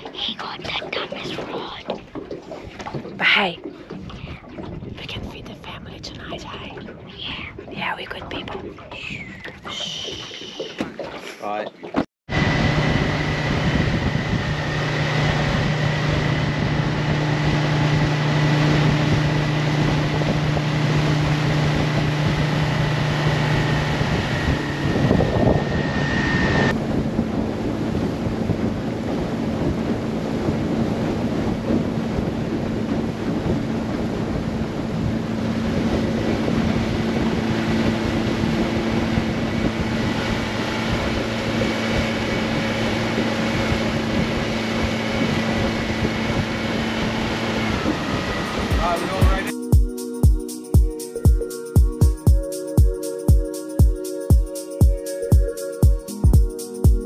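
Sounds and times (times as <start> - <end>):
wind buffeting microphone: 0.0 - 11.0, 12.3 - 49.5
water rushing past hull: 0.0 - 49.6
outboard motor running: 0.0 - 50.5.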